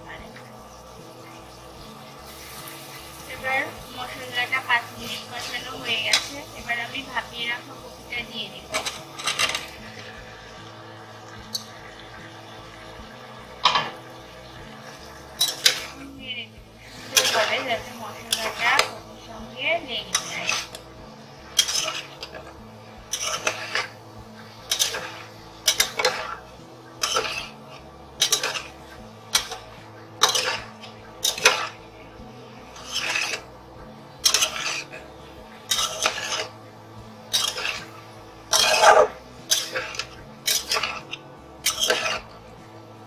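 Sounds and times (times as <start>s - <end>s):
wooden spatula scraping metal pot: 2.1s - 10.7s, 13.6s - 16.1s, 16.7s - 33.6s, 34.2s - 42.5s.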